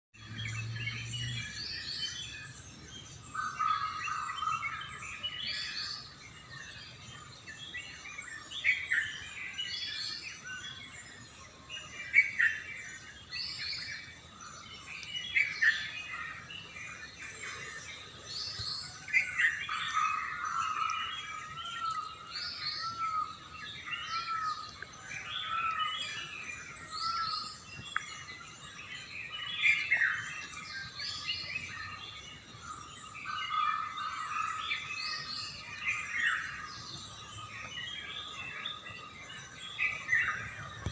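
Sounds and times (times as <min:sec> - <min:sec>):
bird chorus: 0:00.1 - 0:40.9.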